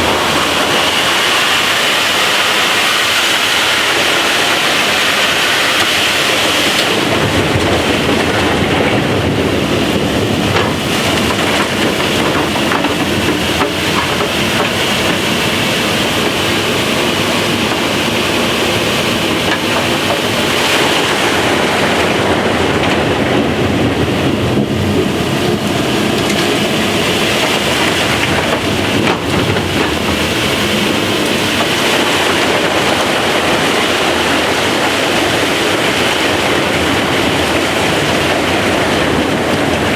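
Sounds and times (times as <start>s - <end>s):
blower sucking dirt up pipe: 0.0s - 39.9s.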